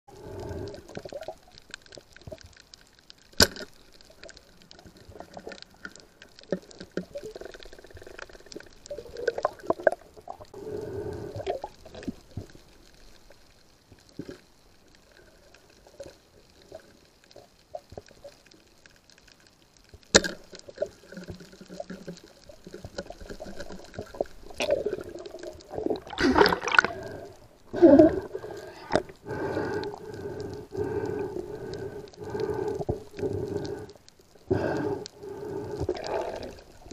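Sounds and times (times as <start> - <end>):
faint watery hiss: 0.1 - 36.9.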